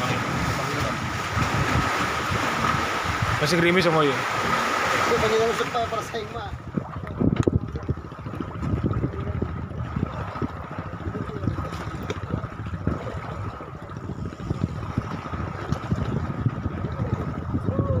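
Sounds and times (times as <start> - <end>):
water sloshing: 0.0 - 17.4
wind gusting on microphone: 0.0 - 18.0.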